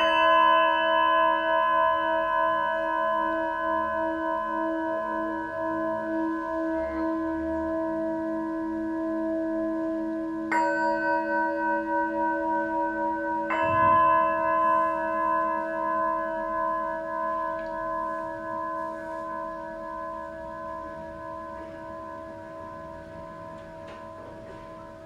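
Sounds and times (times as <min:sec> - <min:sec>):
singing bowls ringing: 0:00.0 - 0:25.0.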